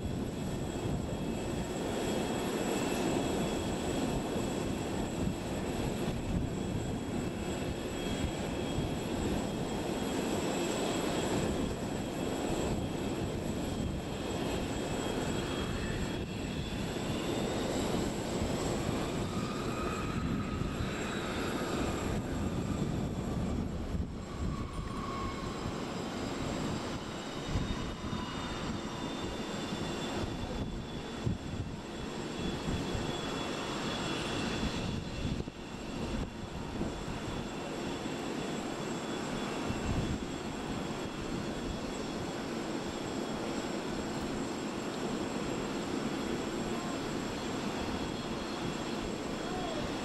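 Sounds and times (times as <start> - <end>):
aircraft engines rumbling: 0.0 - 50.0.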